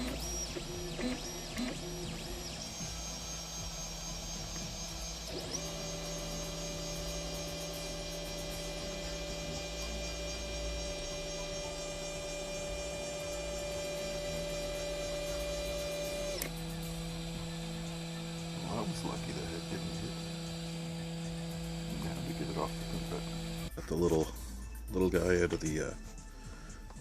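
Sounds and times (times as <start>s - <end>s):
printer motors humming: 0.0s - 23.7s.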